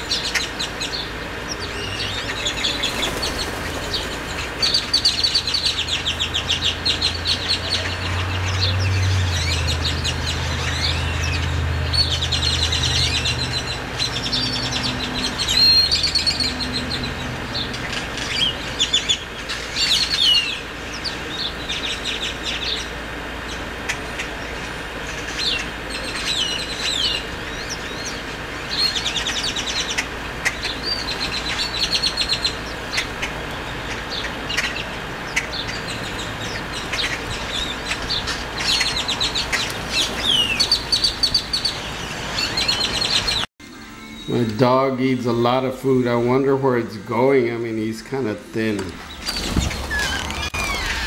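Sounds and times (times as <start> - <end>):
birds whistling: 0.0 - 51.0.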